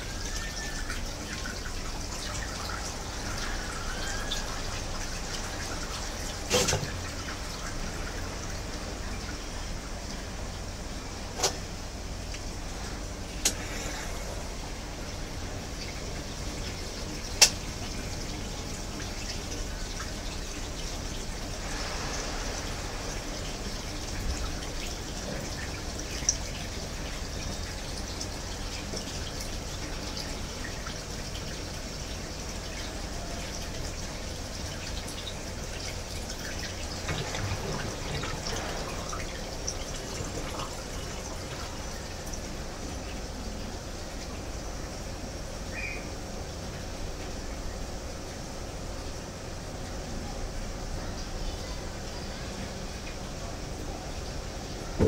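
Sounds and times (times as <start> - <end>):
low steady hum: 0.0 - 55.0
water dripping and trickling: 0.0 - 55.0.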